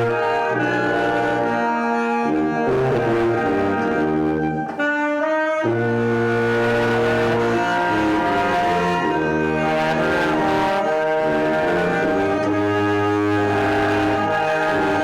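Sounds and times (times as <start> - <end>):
brass ensemble playing a hymn: 0.0 - 15.0.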